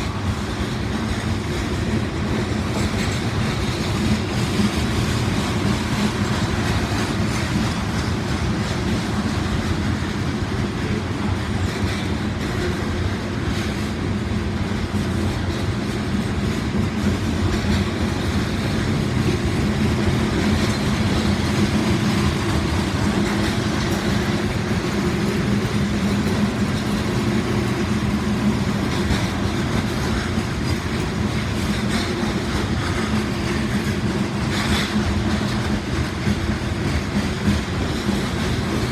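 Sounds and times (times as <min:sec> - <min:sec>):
freight train rolling past: 0:00.0 - 0:38.9
wheels clicking over rail joints: 0:00.0 - 0:38.9.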